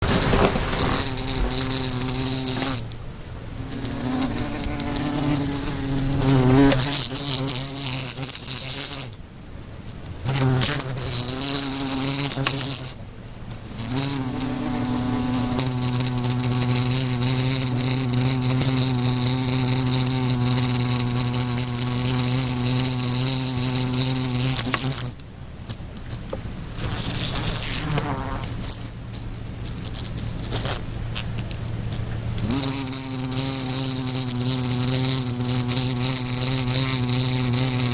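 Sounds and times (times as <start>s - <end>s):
fly buzzing in flight: 0.0s - 2.9s, 3.5s - 9.2s, 10.2s - 13.0s, 13.7s - 25.2s, 26.8s - 31.4s, 32.4s - 37.9s.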